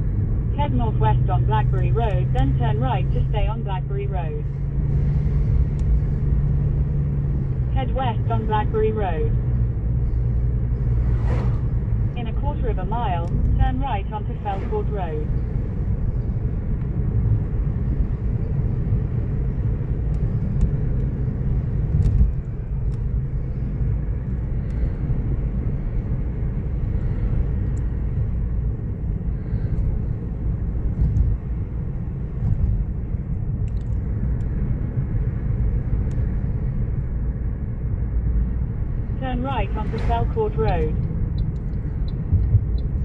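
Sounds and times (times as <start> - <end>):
car engine and tyre road noise: 0.0 - 43.0.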